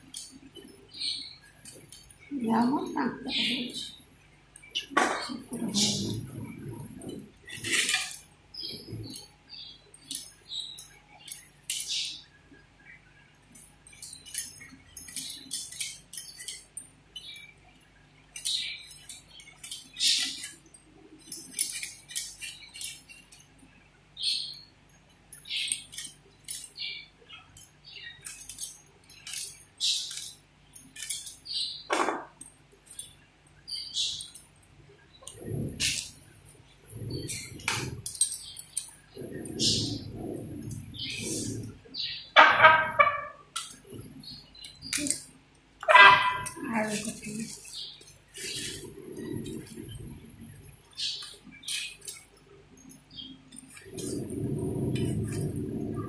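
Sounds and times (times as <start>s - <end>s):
glass bangles clinking: 0.0s - 56.0s.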